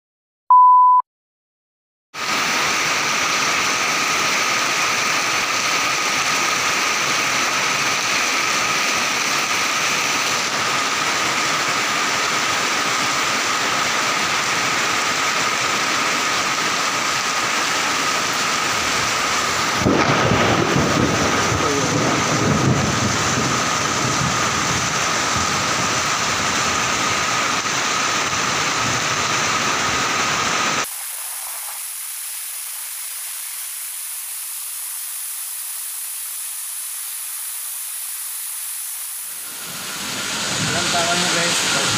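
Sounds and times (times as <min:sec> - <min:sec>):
heavy rain pouring: 0:02.2 - 0:41.9.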